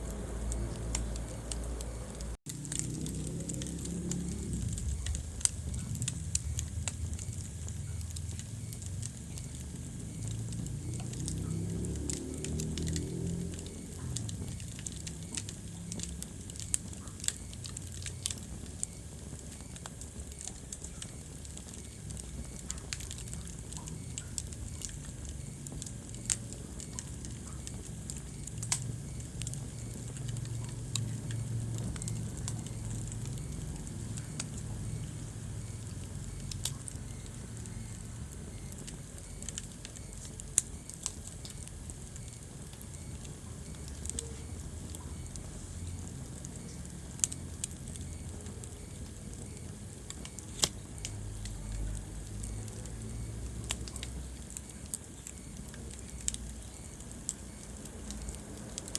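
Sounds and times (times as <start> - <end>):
low fire rumble: 0.0 - 58.9
wood fire crackling and popping: 0.0 - 58.9.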